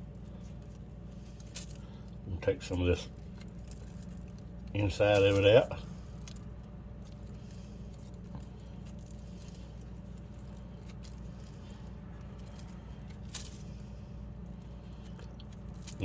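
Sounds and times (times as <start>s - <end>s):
bread being picked out by hand: 0.0s - 16.0s
steady low hum: 0.0s - 16.0s.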